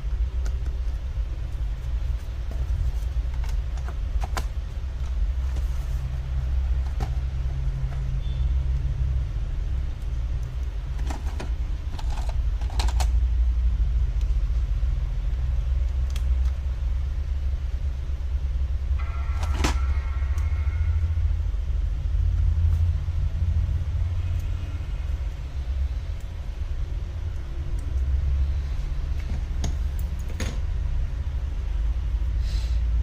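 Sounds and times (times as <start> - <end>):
low rumble: 0.0 - 33.0.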